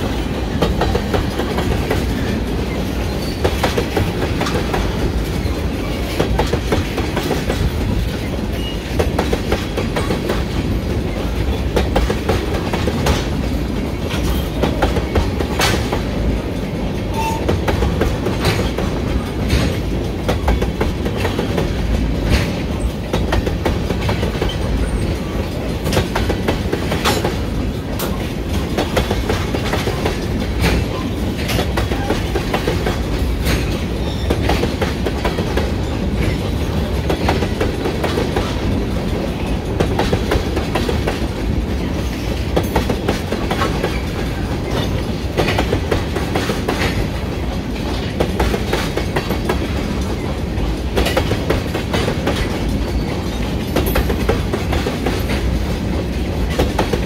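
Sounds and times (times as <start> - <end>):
steel wheels rumbling on rail: 0.0 - 57.0
wheels clicking over rail joints: 0.0 - 57.0.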